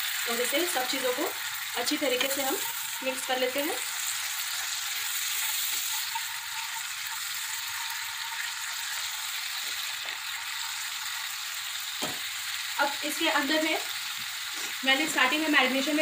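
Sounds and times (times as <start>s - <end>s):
sauce sizzling in a pan: 0.0s - 16.0s.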